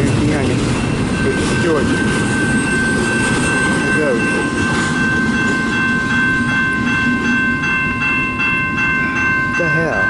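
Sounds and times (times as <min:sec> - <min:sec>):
crossing warning bell ringing: 0:00.0 - 0:10.0
train wheels rumbling on rails: 0:00.0 - 0:10.0.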